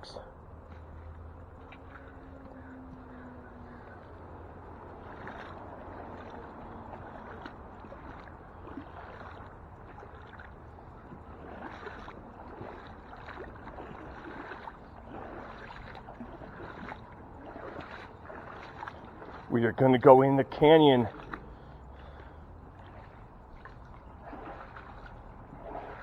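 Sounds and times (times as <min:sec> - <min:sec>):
river water flowing: 0:00.0 - 0:26.0.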